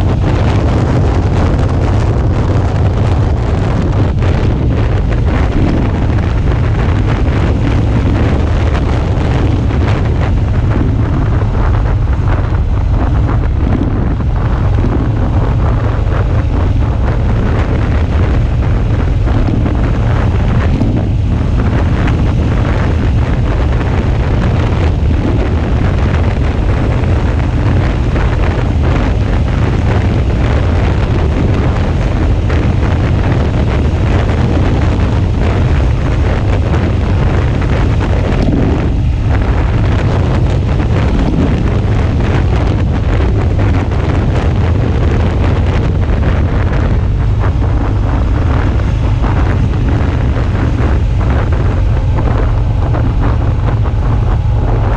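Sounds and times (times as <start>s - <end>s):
motorcycle engine running: 0.0s - 54.9s
wind buffeting microphone: 0.0s - 54.9s.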